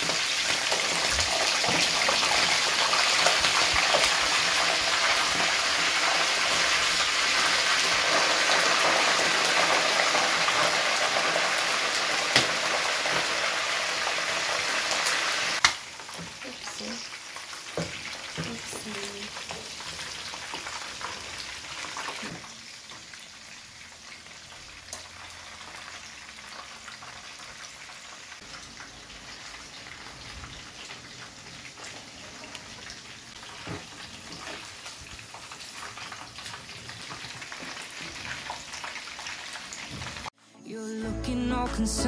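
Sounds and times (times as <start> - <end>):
chicken sizzling in hot oil: 0.0 - 40.4.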